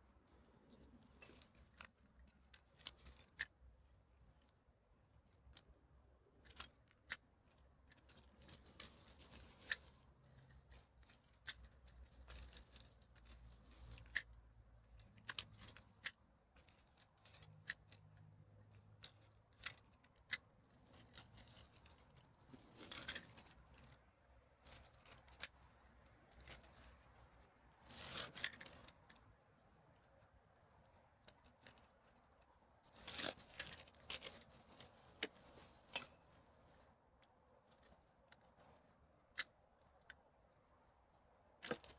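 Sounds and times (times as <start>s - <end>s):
crinkling bursts: 0.1s - 4.6s, 5.2s - 41.9s.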